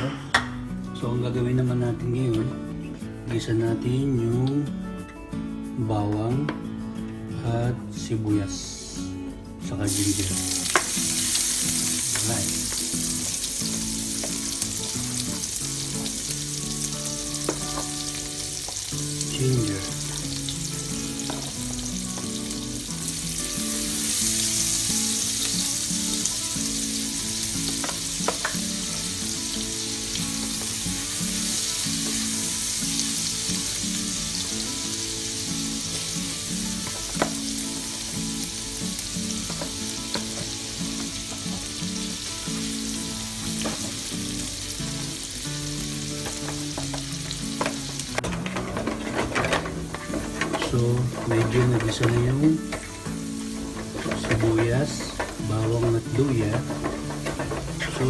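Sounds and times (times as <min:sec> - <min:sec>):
food sizzling in a pan: 0:09.8 - 0:58.0
stirring clicks: 0:09.9 - 0:34.8, 0:35.7 - 0:58.0.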